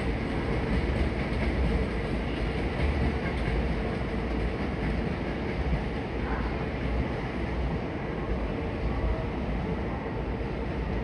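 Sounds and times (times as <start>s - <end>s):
electric train running: 0.0s - 11.0s.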